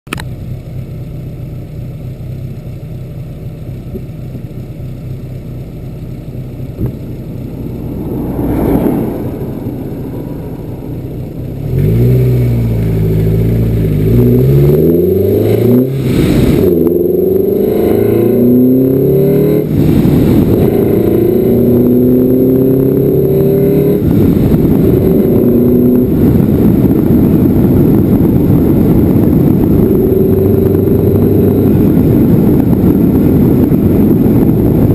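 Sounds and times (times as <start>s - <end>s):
vehicle engine accelerating: 5.9s - 34.9s
wind noise: 6.7s - 34.9s.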